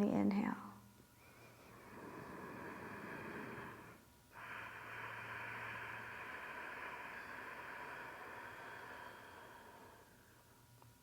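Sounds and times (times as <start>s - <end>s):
slow breathing through nose: 1.2s - 10.6s.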